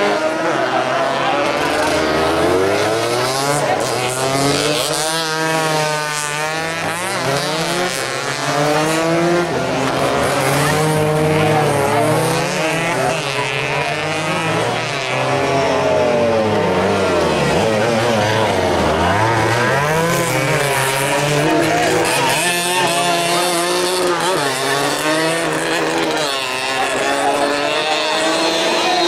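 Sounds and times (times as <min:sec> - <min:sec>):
racing motorcycle engines: 0:00.0 - 0:29.0.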